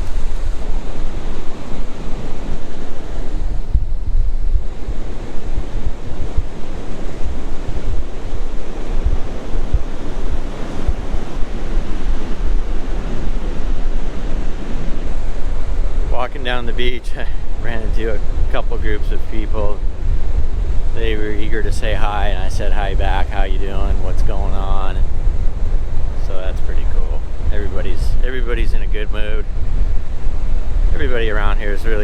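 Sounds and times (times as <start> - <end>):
surf washing onto beach: 0.0 - 32.0
wind buffeting microphone: 0.0 - 32.0.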